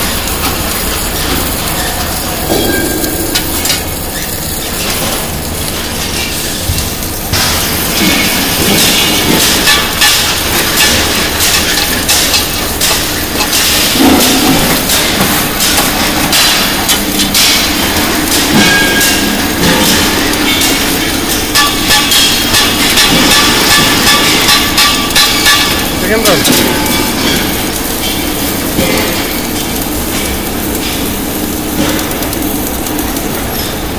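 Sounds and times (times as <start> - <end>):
welding machine rattling clatter: 0.0 - 33.9.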